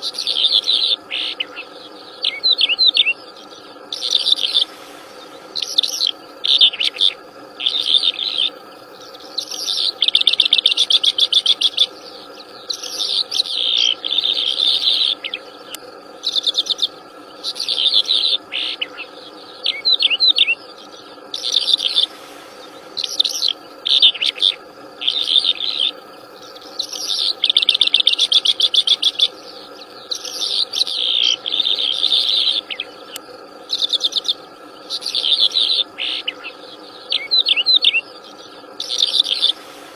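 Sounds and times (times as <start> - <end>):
songbird trilling and chattering: 0.0 - 39.6
insects droning: 0.0 - 39.9.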